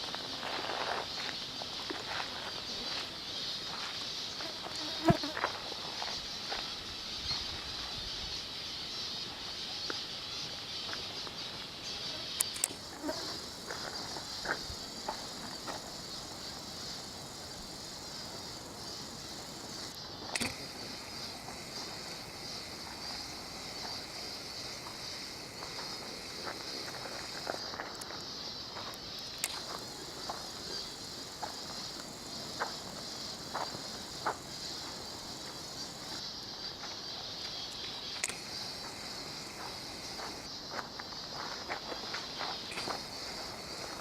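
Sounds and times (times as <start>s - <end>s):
insect chorus trilling: 0.0s - 44.0s.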